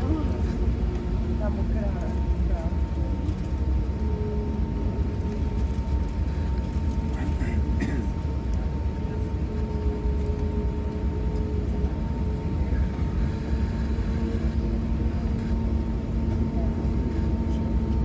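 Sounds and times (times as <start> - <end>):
airliner engine and airflow rumble: 0.0 - 18.0
constant cabin hum: 0.0 - 18.0.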